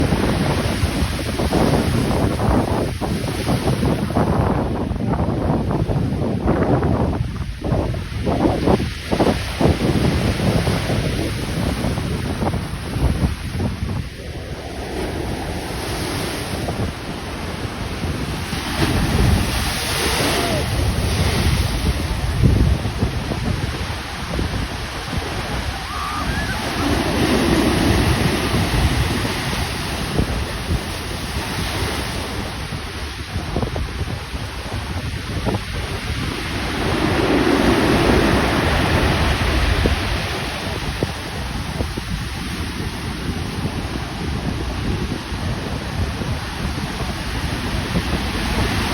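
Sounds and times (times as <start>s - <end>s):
wind buffeting microphone: 0.0s - 48.9s
rough surf breaking: 8.0s - 48.9s.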